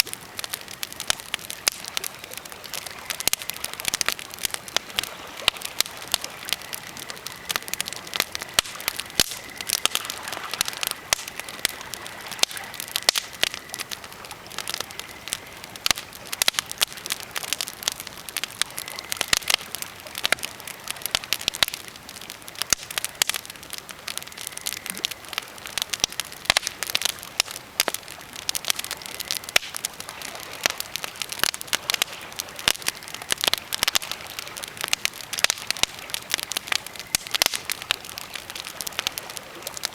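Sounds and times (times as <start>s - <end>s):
campfire crackling: 0.0s - 39.9s
soft steady hiss: 0.0s - 39.9s.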